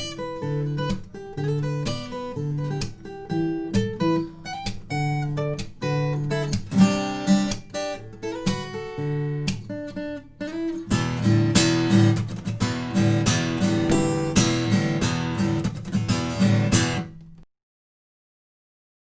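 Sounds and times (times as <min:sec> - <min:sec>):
acoustic guitar picked and strummed: 0:00.0 - 0:17.5.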